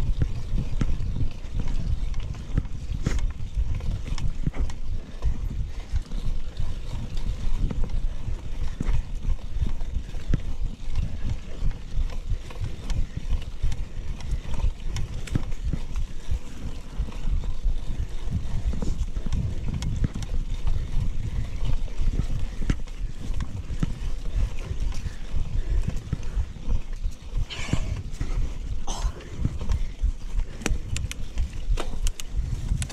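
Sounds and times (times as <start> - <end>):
bike knocking and rattling: 0.0 - 32.9
wind rumbling on microphone: 0.0 - 32.9.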